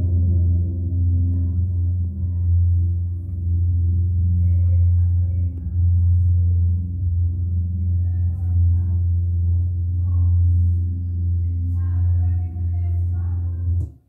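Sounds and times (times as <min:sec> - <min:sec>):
faint higher tones: 0:00.0 - 0:13.8
deep bass drone: 0:00.0 - 0:14.0.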